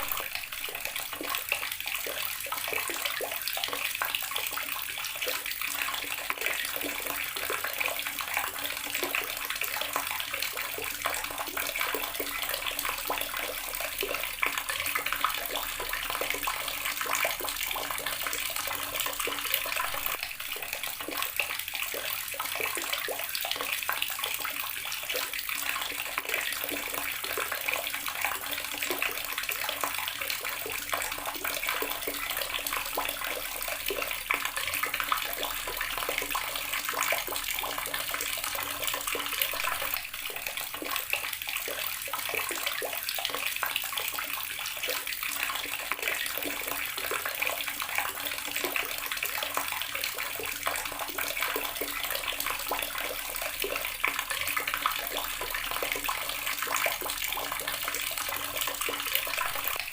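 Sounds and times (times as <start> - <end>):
water tap running and splashing: 0.0 - 59.9.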